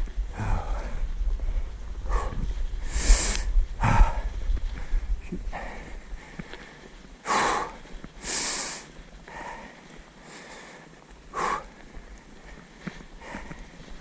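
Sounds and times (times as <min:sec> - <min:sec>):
person breathing hard: 0:00.2 - 0:14.0.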